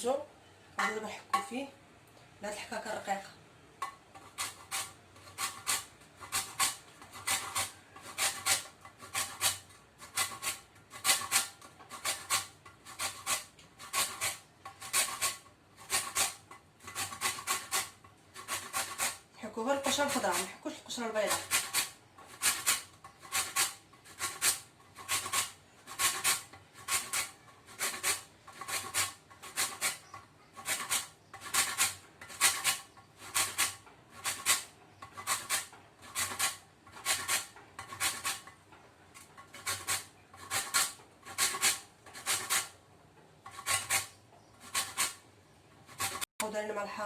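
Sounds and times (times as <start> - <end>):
lemon rind scraping on grater: 4.1 - 42.8, 43.4 - 46.3.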